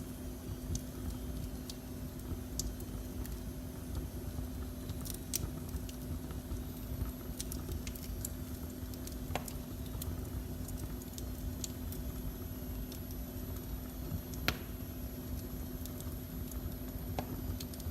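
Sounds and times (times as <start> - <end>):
faint steady hum: 0.0 - 17.9
low rumble of flames: 0.0 - 17.9
wood fire crackling and popping: 0.0 - 17.9.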